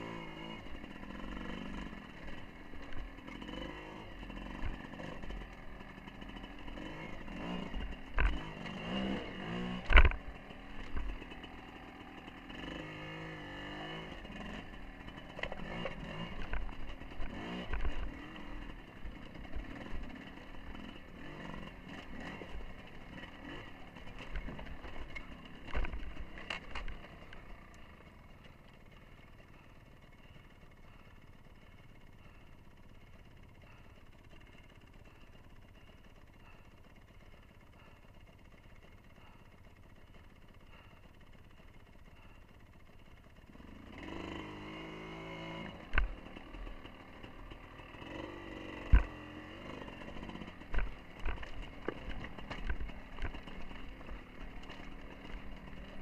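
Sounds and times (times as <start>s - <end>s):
dirt bike engine at low revs: 0.0s - 56.0s.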